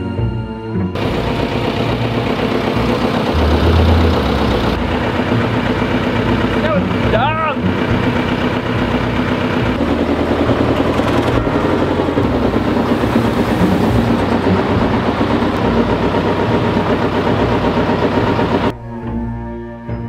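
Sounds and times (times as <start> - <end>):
tractor engine running: 0.9 - 18.8.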